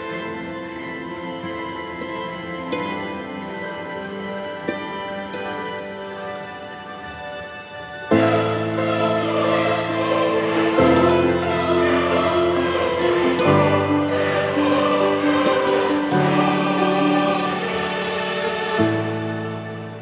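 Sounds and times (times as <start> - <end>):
slow sustained music chords: 0.0 - 20.0.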